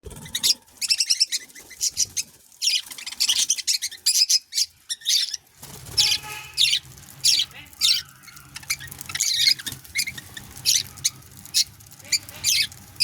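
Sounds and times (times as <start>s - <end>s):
budgerigars chattering: 0.2s - 13.0s.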